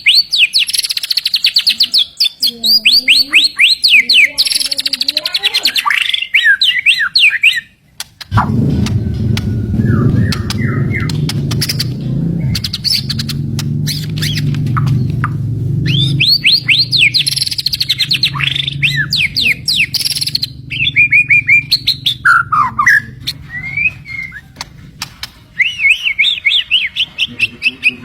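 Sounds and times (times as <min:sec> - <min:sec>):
songbird whistling and clicking: 0:00.0 - 0:28.0.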